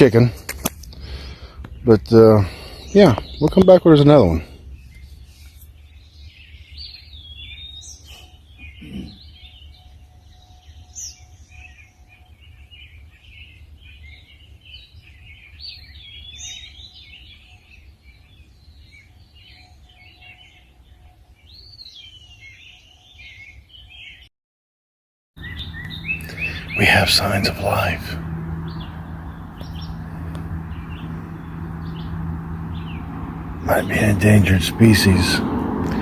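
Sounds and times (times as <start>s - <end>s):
small birds chirping: 0.0s - 24.3s, 25.4s - 36.0s.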